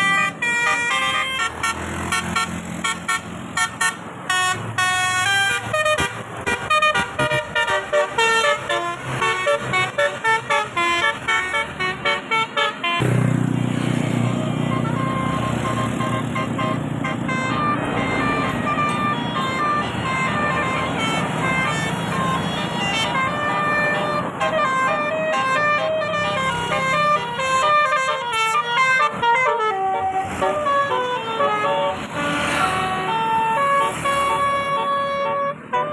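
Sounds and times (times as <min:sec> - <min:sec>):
bus horn playing a tune: 0:00.0 - 0:35.9.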